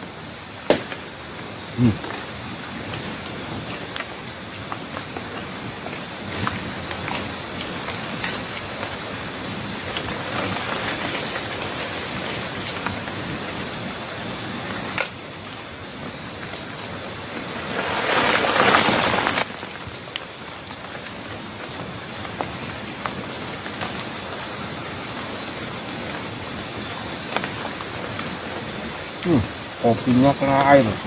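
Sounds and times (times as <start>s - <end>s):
rain-like patter: 0.0s - 31.0s
rushing hiss: 0.0s - 31.0s.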